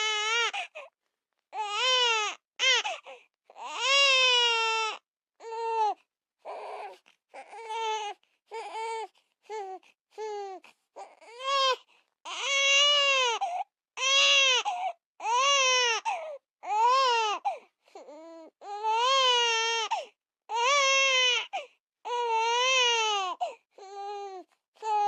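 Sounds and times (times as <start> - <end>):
baby crying: 0.0 - 0.8, 1.6 - 9.7, 10.4 - 25.0.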